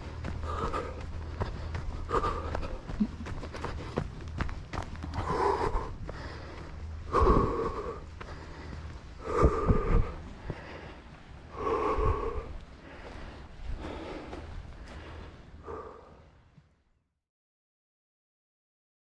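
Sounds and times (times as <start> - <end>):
runner breathing hard: 0.0 - 16.8.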